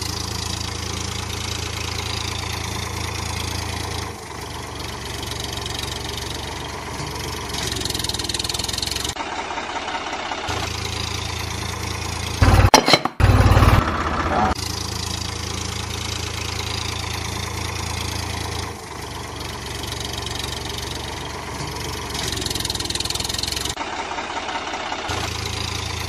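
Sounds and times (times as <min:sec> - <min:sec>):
diesel tractor engine idling: 0:00.0 - 0:26.0.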